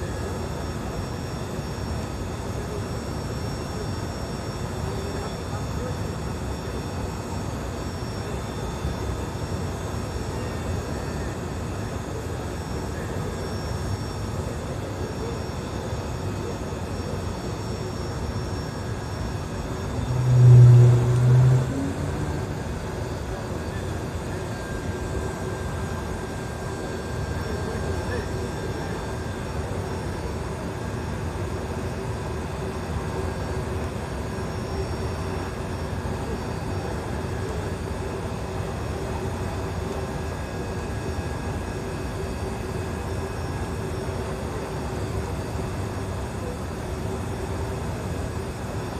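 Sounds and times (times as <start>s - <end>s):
engine rumbling steadily: 0.0s - 48.9s
faint constant hum: 0.0s - 48.9s
faint steady whining tones: 0.0s - 48.9s.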